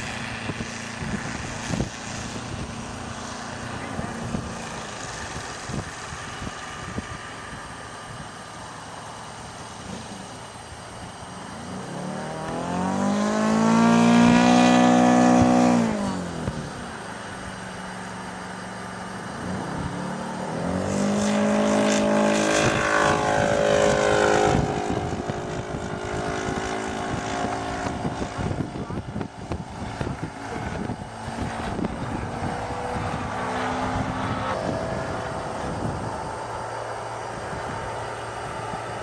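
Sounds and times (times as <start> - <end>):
model airplane flying past: 0.0 - 39.0.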